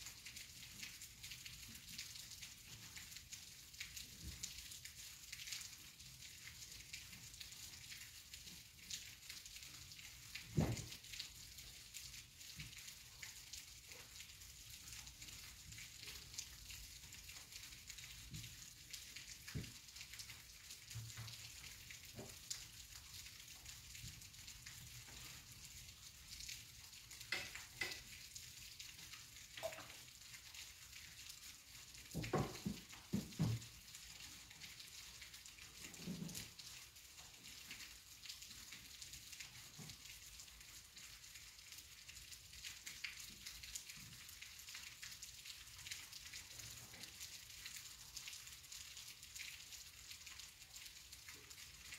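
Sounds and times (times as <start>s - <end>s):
drips and taps: 0.0s - 51.9s
light rain hissing: 0.0s - 51.9s.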